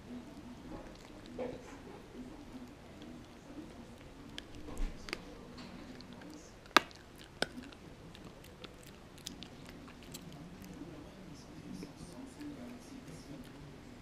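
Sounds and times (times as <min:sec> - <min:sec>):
dog chewing a chew stick: 0:00.4 - 0:14.0.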